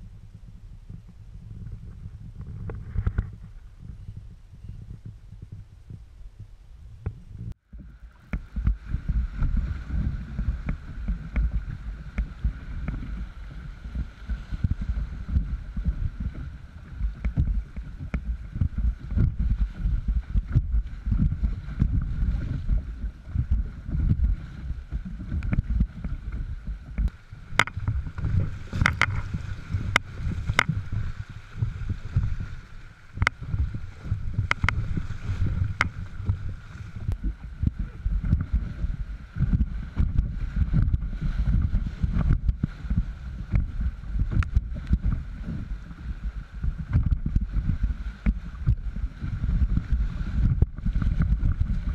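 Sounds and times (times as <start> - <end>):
water buffeting microphone: 0.0 - 51.9
water rushing and splashing: 7.6 - 51.9.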